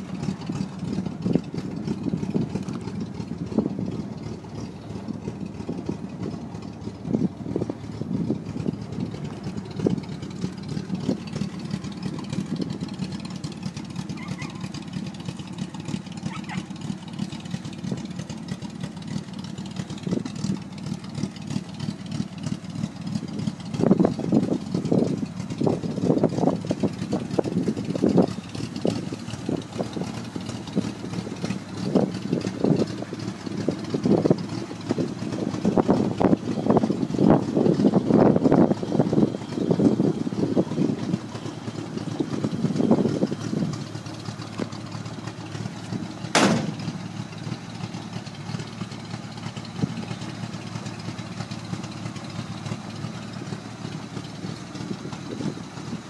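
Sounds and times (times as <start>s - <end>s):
rumbling gusts of noise: 0.0s - 14.1s, 14.8s - 56.0s
engine idling: 0.0s - 56.0s.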